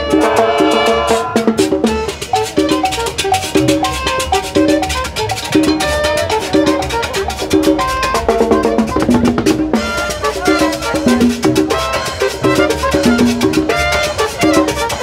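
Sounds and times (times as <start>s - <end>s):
bass notes: 0.0s - 15.0s
brass notes: 0.0s - 15.0s
drums and percussion beat: 0.0s - 15.0s.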